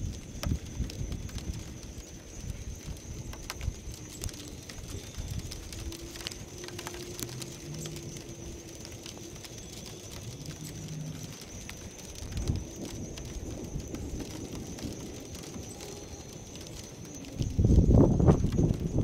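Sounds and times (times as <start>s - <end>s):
faint ticks and clicks: 0.0s - 19.0s
low rumble of thunder: 0.0s - 19.0s.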